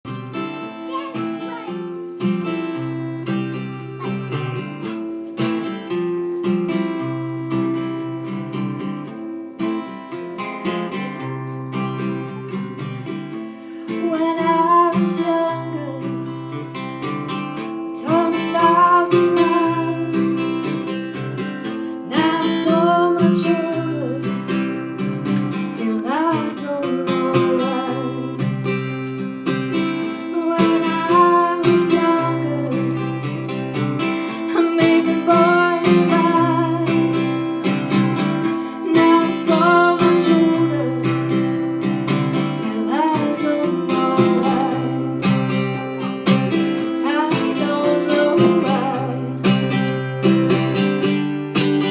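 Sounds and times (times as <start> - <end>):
acoustic guitar strummed: 0.0 - 51.9.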